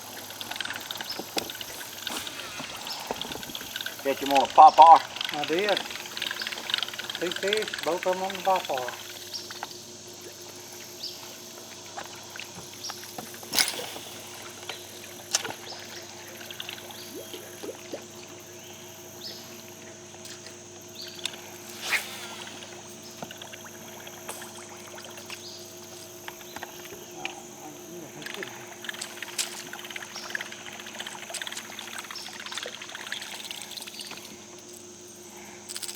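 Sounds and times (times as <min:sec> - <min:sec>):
insect drone: 0:00.0 - 0:35.9
steady low hum: 0:00.0 - 0:35.9.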